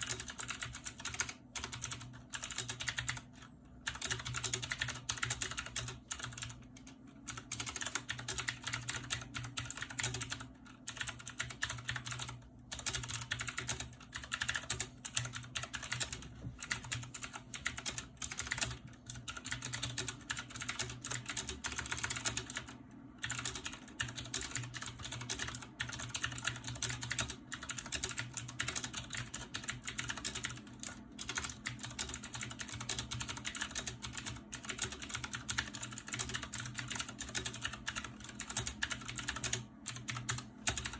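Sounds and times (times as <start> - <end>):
mechanical keyboard clicking: 0.0 - 40.9.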